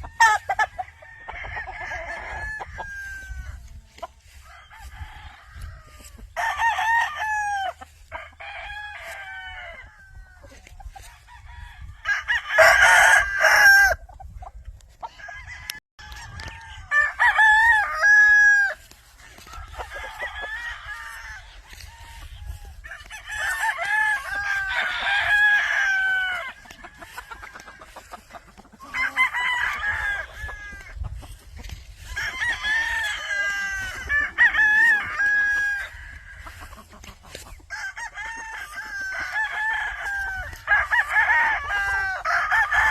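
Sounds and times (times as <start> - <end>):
roosters crowing: 0.0 - 42.9.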